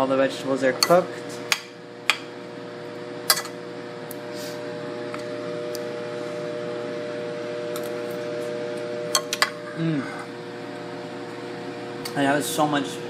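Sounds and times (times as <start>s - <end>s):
appliance fan motor humming: 0.0s - 13.0s.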